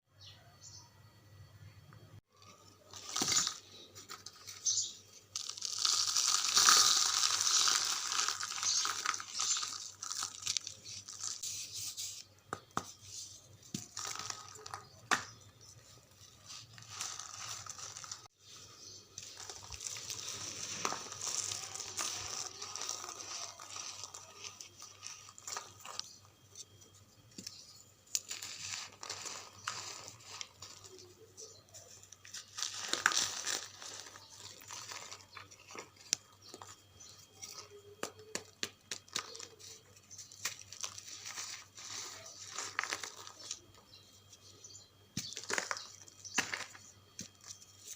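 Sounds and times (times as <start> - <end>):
charcoal crumbling and crackling: 2.4 - 47.9.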